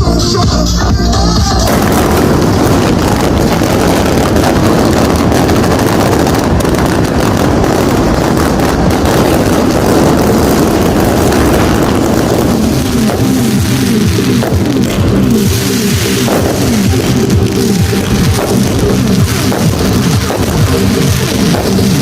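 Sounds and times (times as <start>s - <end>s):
firecrackers and fireworks crackling: 0.0s - 22.0s.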